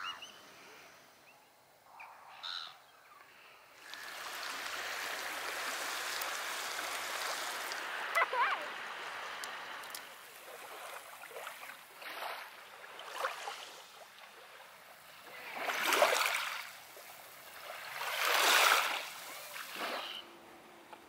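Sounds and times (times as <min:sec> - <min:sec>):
small waves lapping at shore: 0:03.4 - 0:21.0.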